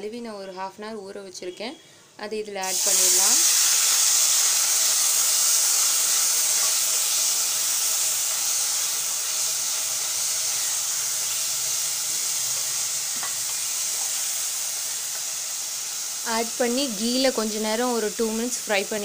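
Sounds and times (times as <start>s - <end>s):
rice sizzling in hot fat: 2.6s - 19.0s.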